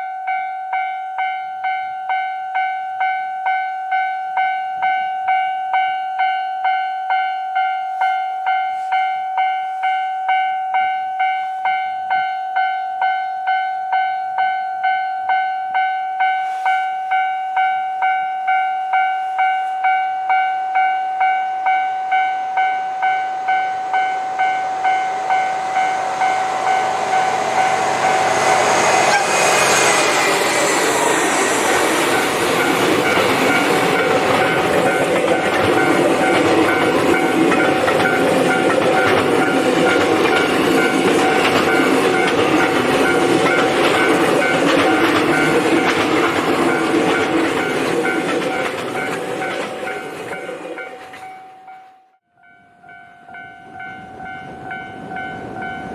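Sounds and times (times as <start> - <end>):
train passing on rails: 0.0 - 55.9.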